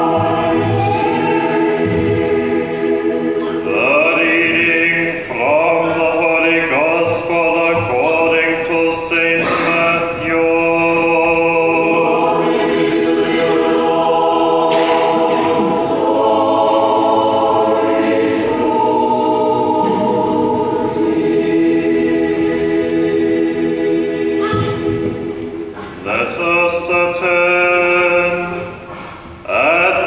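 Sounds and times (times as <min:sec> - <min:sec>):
choir singing chant: 0:00.0 - 0:30.0.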